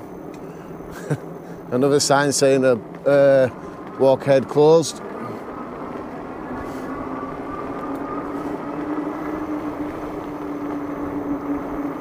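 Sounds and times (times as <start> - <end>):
electric bike motor whining: 0.0 - 12.0
fat tyres rumbling on bumpy path: 0.0 - 12.0.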